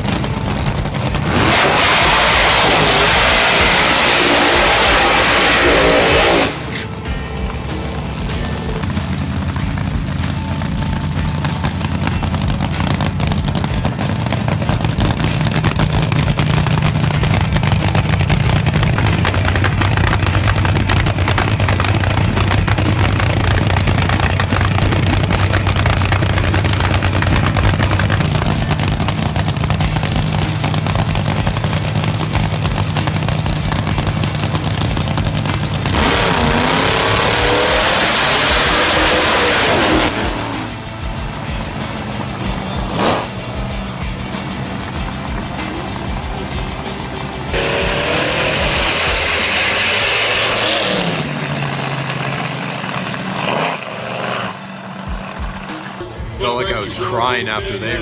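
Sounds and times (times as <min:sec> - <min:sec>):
drag racing engines idling: 0:00.0 - 0:58.0
engines revving: 0:00.0 - 0:58.0.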